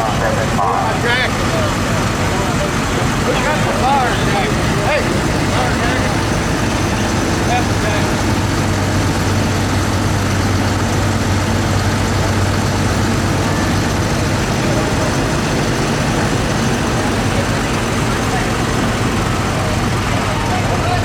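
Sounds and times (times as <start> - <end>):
heavy engine running steadily: 0.0 - 21.0
loud outdoor noise: 0.0 - 21.0.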